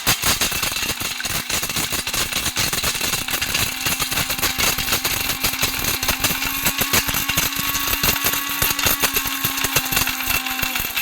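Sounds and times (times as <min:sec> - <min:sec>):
grain rattling against blades: 0:00.0 - 0:11.0
mixer grinder motor whine: 0:00.0 - 0:11.0.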